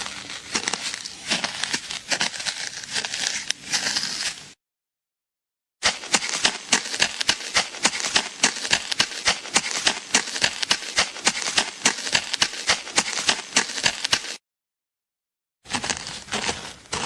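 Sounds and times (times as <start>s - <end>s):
footsteps on crunchy surface: 0.0s - 4.6s, 5.8s - 14.4s, 15.7s - 17.0s.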